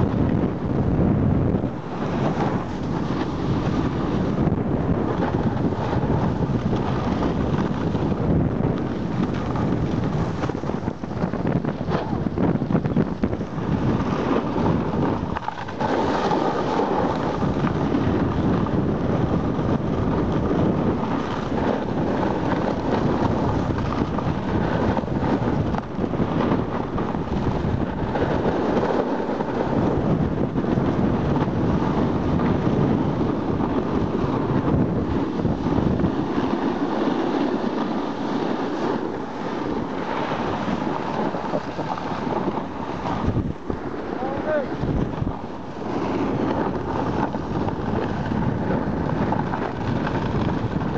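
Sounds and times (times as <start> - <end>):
snowboard scraping over snow: 0.0 - 50.9
wind buffeting microphone: 0.0 - 50.9.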